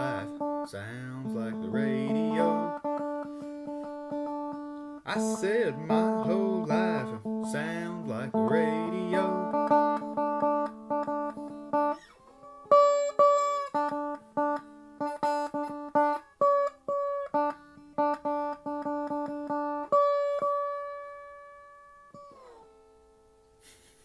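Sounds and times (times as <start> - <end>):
lap steel guitar sliding notes: 0.0 - 23.0.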